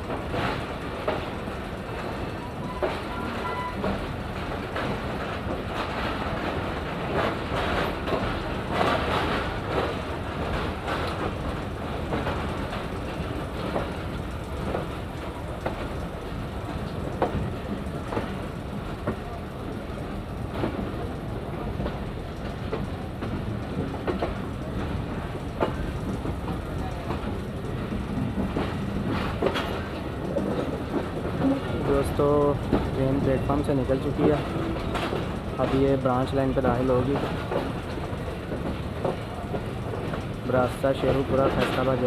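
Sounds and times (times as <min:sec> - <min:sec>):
train rumbling on rails: 0:00.0 - 0:42.0
wheels clacking over rail joints: 0:00.0 - 0:42.0.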